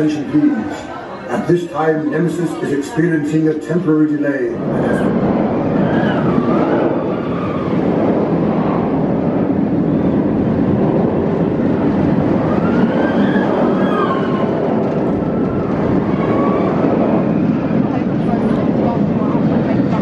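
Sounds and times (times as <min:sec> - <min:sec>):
roller coaster train rumble: 0:00.0 - 0:20.0.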